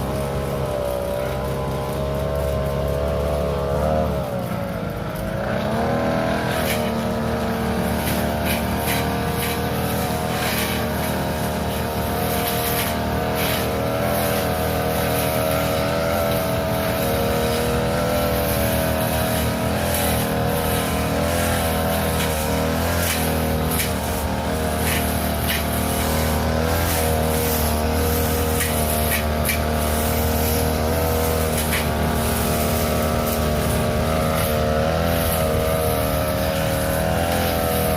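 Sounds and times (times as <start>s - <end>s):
grass cutter engine running: 0.0s - 37.9s.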